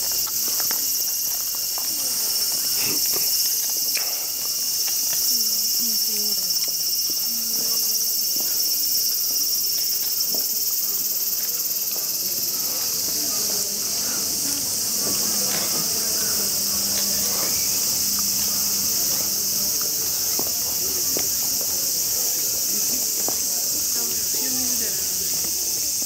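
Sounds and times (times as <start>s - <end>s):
high-pitched insect buzz: 0.0s - 26.0s.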